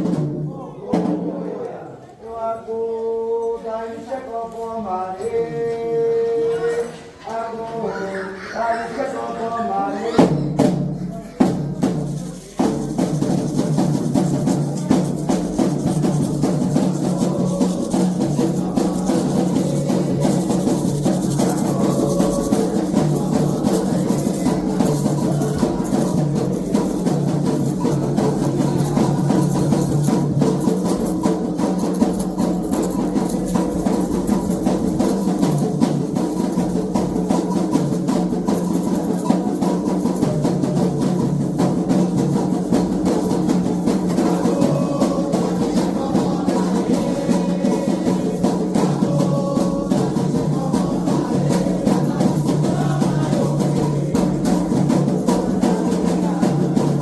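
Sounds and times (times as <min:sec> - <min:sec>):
hand drums playing steady rhythm: 0:00.0 - 0:01.5, 0:08.3 - 0:57.0.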